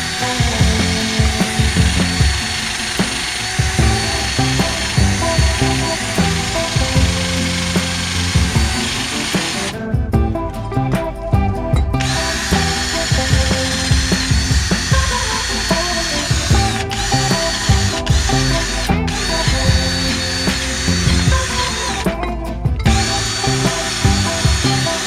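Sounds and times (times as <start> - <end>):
power tool motor whining: 0.0 - 9.8, 12.0 - 25.0
background music: 0.0 - 25.0.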